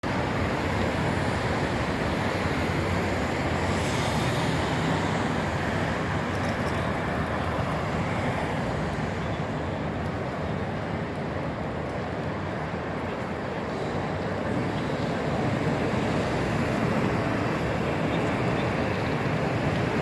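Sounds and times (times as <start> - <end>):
busy city road traffic: 0.0 - 20.0.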